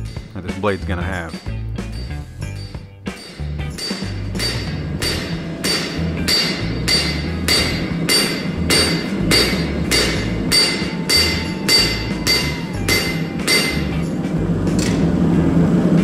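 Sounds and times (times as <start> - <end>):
hammer striking steel on anvil: 0.0 - 15.1.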